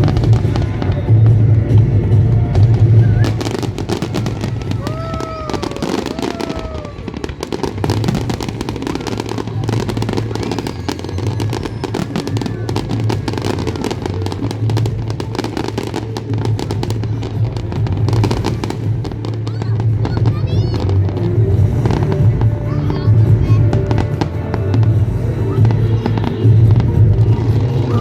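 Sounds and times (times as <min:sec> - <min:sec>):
fireworks crackling and popping: 0:00.0 - 0:28.0
music with steady low bass: 0:00.0 - 0:28.0.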